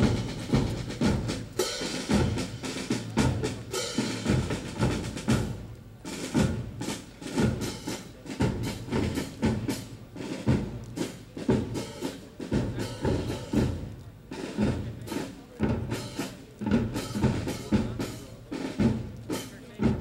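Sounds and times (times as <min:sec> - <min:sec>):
snare drum march cadence: 0:00.0 - 0:20.0.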